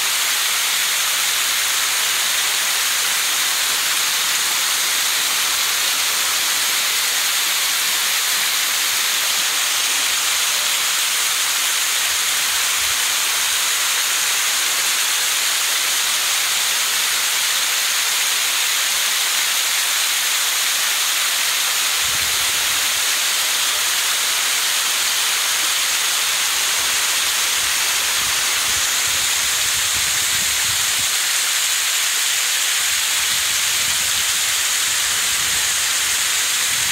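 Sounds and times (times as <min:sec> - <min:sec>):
fountain water splashing into pool: 0:00.0 - 0:36.9.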